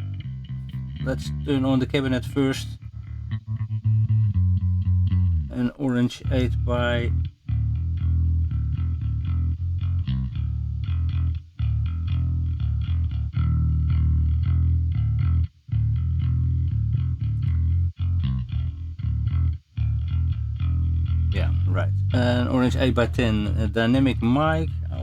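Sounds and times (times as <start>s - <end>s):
electric bass guitar riff: 0.0s - 25.0s.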